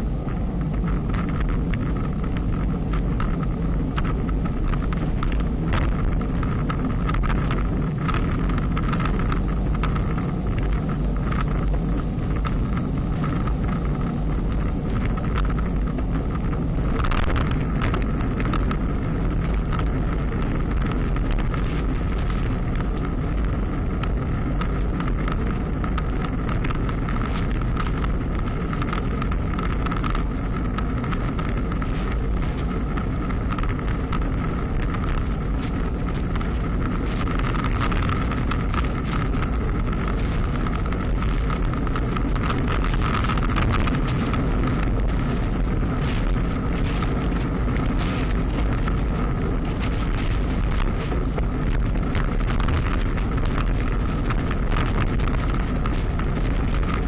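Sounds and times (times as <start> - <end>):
bicycle clicks and rattles: 0.0 - 57.0
steady hum: 0.0 - 57.0
wind rushing over microphone: 0.0 - 57.0.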